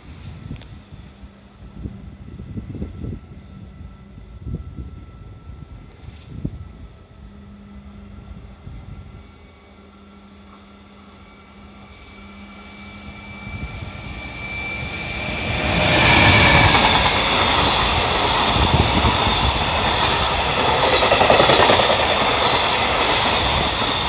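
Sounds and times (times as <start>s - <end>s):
freight train passing: 0.0s - 24.0s.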